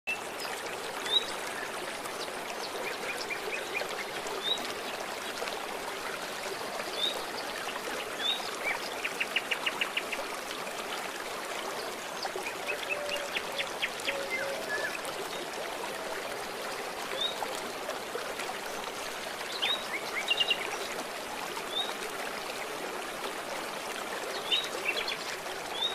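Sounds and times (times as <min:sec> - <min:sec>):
river babbling over stones: 0:00.1 - 0:25.9.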